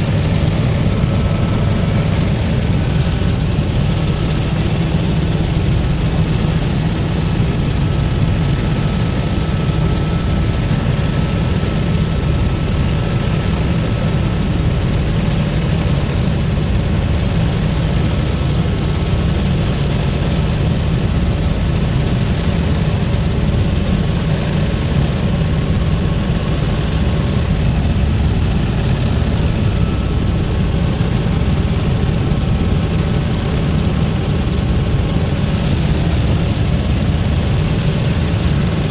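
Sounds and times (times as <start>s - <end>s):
faint high whine: 0.0s - 38.9s
helicopter cabin drone: 0.0s - 38.9s.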